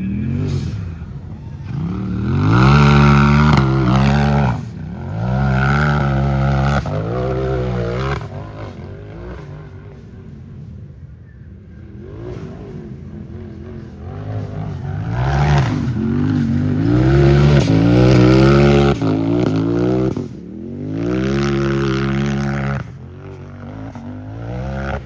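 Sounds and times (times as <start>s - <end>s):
race vehicle engine revving: 0.0s - 25.0s.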